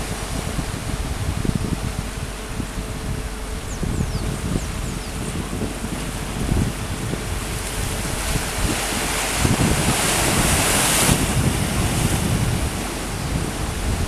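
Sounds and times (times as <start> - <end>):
rushing wind and water: 0.0 - 14.0
wind buffeting microphone: 0.0 - 14.0.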